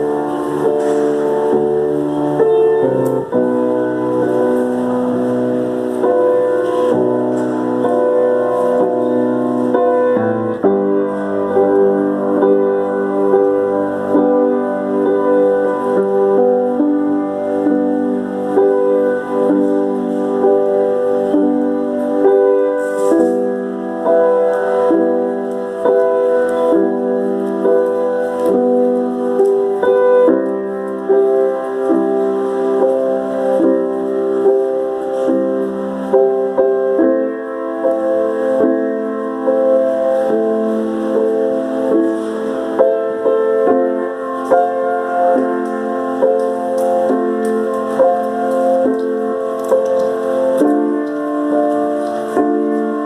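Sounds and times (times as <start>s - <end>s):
piano playing held chords: 0.0s - 53.0s.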